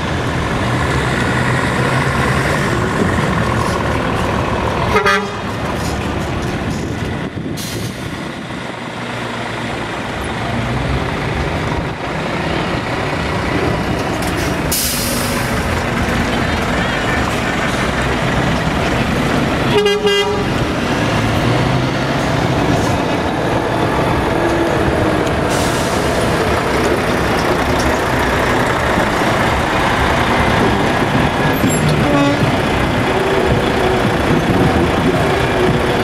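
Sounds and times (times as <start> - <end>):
traffic: 0.0 - 36.0
truck diesel engines running: 0.0 - 36.0.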